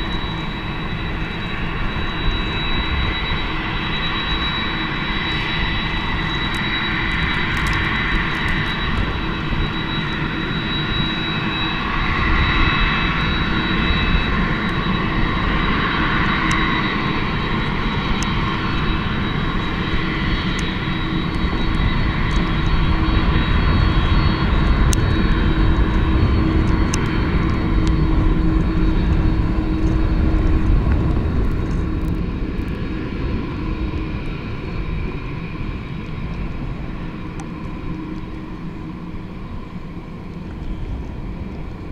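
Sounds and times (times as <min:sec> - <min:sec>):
jet engines whining and rumbling: 0:00.0 - 0:41.9.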